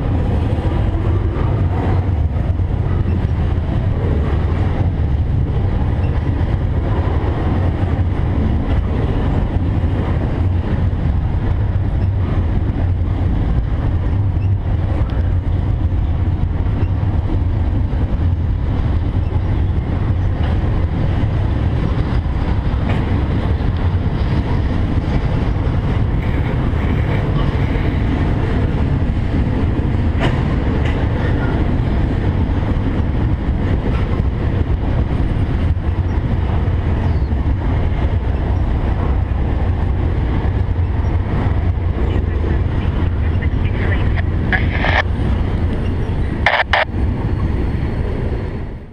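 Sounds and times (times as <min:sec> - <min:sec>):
freight cars rumbling on rails: 0:00.0 - 0:48.9.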